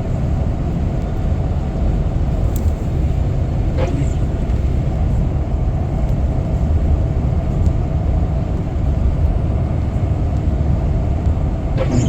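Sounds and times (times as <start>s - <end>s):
car driving on road: 0.0s - 12.0s.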